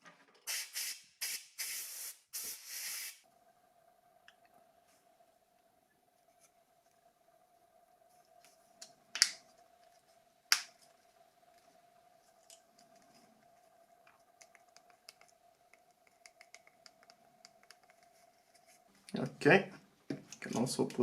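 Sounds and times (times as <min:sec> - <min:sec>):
faint steady hum: 0:03.2 - 0:21.0.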